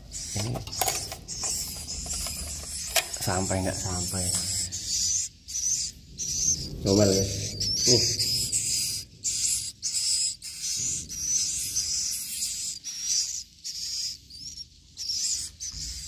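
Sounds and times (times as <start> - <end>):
high-pitched twittering of birds: 0.0 - 16.0.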